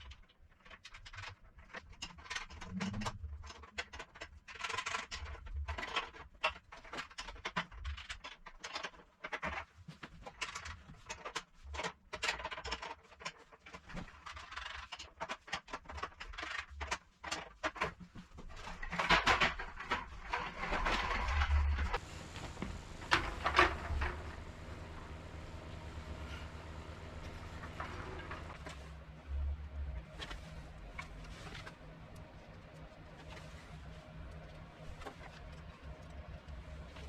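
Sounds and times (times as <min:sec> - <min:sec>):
objects clicking knocking and scraping: 0:00.0 - 0:37.0.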